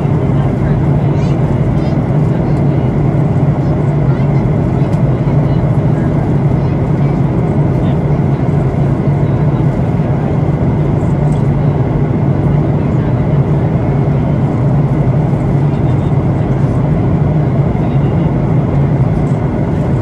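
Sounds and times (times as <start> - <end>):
airplane cabin engine hum: 0.0 - 20.0.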